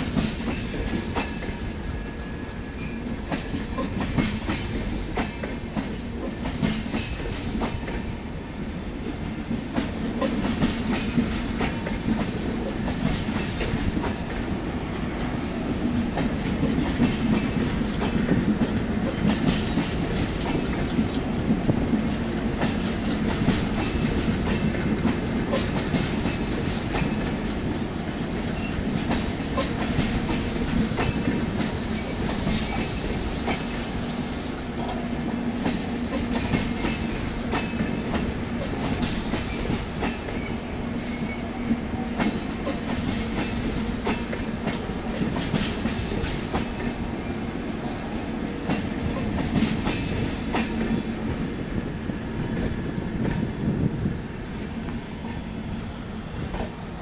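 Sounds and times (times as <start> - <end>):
train wheels clicking over rail joints: 0.0 - 2.0, 3.0 - 8.2, 9.0 - 14.6, 15.2 - 53.9
low train rumble: 0.0 - 57.0.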